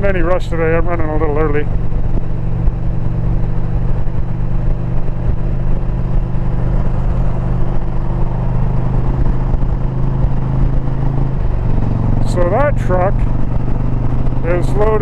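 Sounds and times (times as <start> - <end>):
motorcycle engine cruising: 0.0 - 15.0
road noise rush: 0.0 - 15.0.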